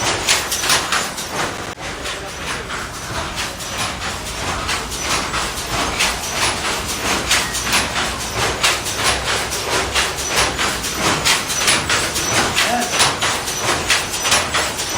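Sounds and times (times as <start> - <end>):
weaving loom clattering: 0.0 - 14.9.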